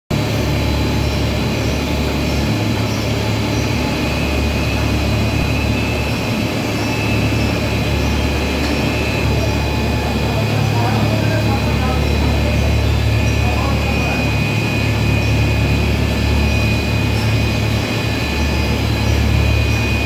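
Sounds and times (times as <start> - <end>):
high-pitched machine whines: 0.1 - 20.0
machine drone with low hum: 0.1 - 20.0.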